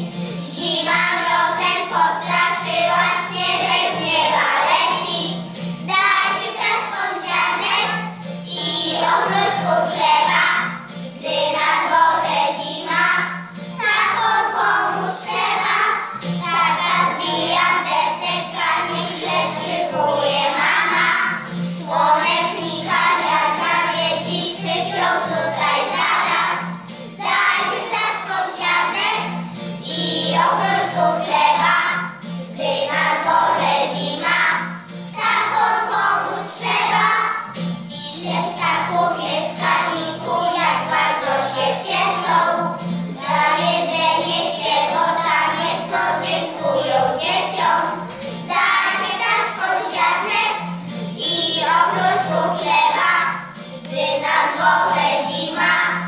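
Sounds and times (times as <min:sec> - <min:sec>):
children singing in unison: 0:00.0 - 0:37.4, 0:38.0 - 0:56.0.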